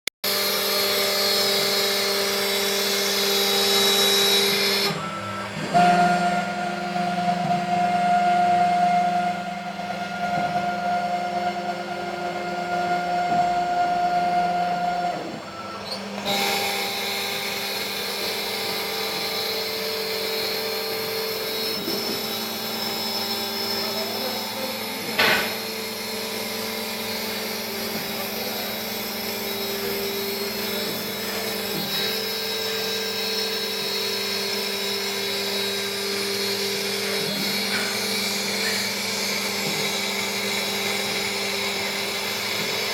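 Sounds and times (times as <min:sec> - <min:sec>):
router spindle running: 0:00.2 - 0:42.9.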